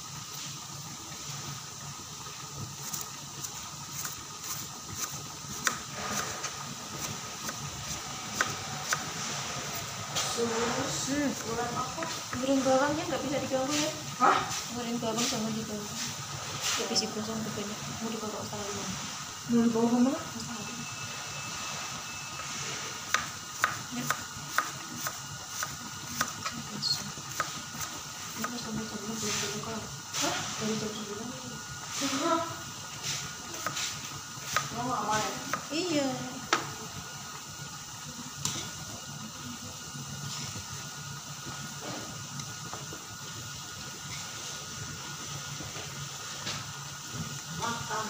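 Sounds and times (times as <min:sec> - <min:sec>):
shallots sizzling in oil: 0:00.0 - 0:48.0.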